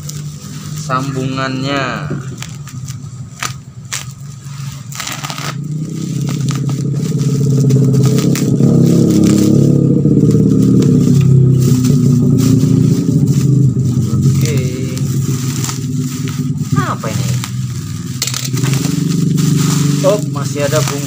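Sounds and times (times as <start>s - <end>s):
engine running: 0.0s - 21.0s
plastic wrapping crackling and tearing: 0.0s - 21.0s.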